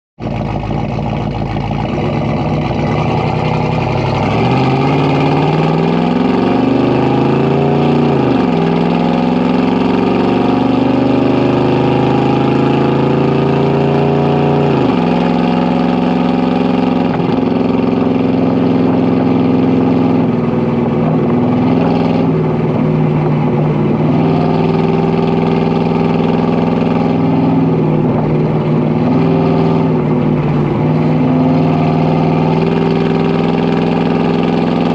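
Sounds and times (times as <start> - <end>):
engine exhaust accelerating: 0.2 - 34.9.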